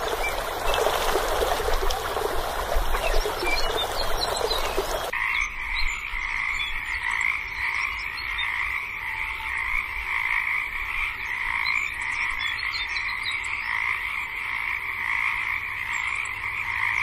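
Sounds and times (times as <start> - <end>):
chorus of croaking animals: 0.0 - 17.0.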